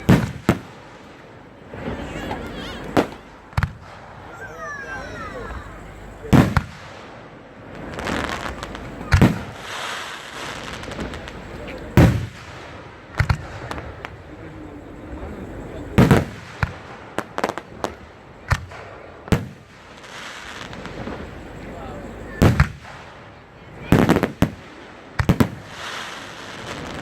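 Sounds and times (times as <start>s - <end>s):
fireworks booming: 0.0s - 27.0s
small fireworks pops: 0.0s - 27.0s.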